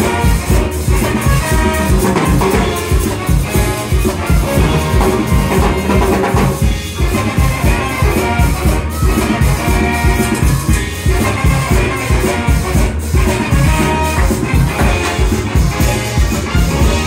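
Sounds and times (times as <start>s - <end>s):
drum kit beat: 0.0s - 17.0s
saxophones: 0.0s - 17.0s
trombone: 0.0s - 17.0s.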